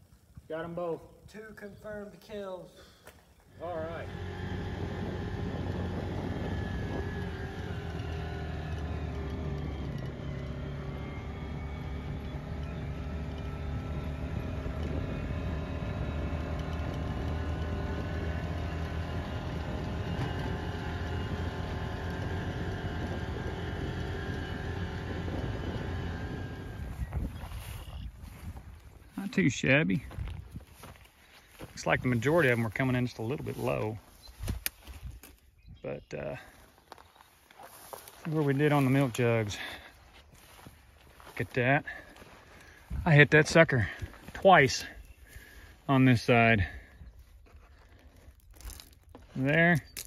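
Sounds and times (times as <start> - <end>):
vehicle engine on dirt track: 3.5 - 35.0, 35.9 - 50.0.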